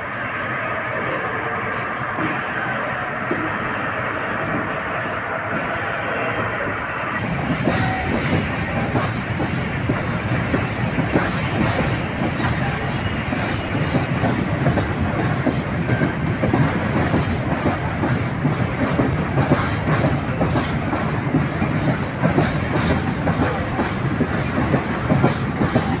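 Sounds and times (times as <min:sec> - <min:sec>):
rail wagons rumbling: 0:00.0 - 0:26.0.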